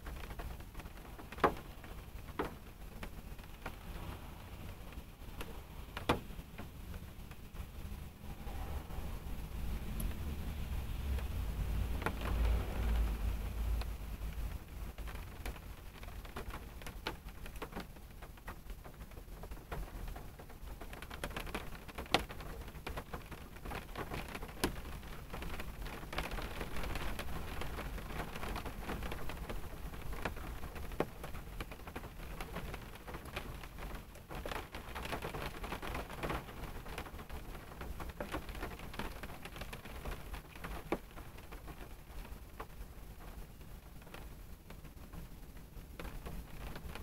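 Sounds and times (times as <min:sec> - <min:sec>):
rain pattering on car: 0:00.0 - 0:47.0
raindrops ticking on car body: 0:00.0 - 0:47.0.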